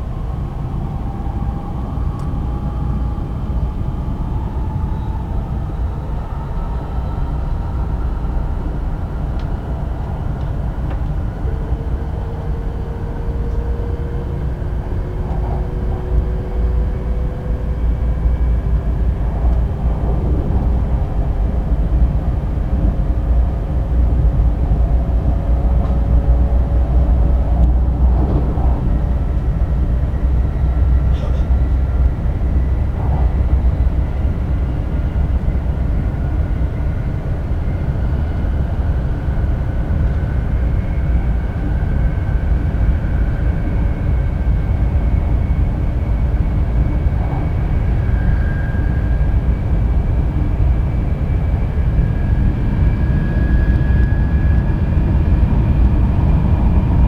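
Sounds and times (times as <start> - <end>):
train cabin low rumble: 0.0 - 57.0.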